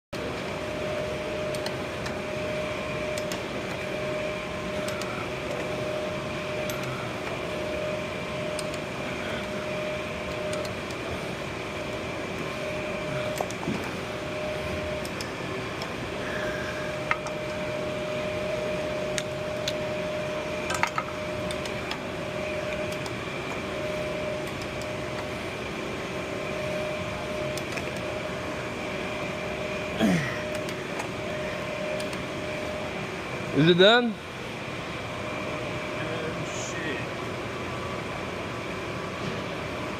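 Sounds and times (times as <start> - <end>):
pipe threading machine motor hum: 0.2 - 36.0.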